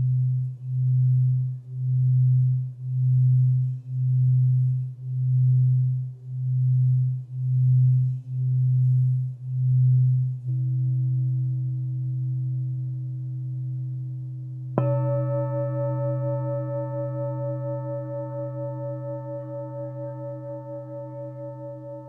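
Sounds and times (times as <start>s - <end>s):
singing bowl deep tone: 0.0s - 22.0s.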